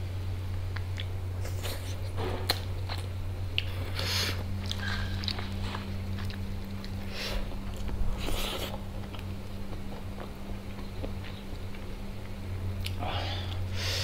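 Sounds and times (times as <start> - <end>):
steady low hum: 0.0 - 14.0
biting and chewing food: 0.7 - 13.0.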